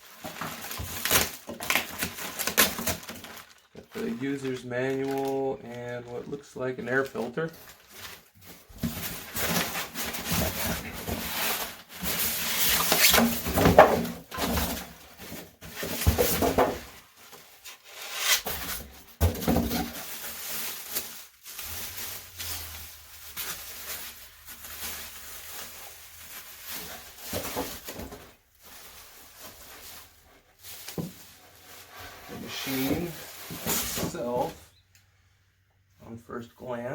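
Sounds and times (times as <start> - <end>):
styrofoam and cardboard being handled: 0.0 - 34.6.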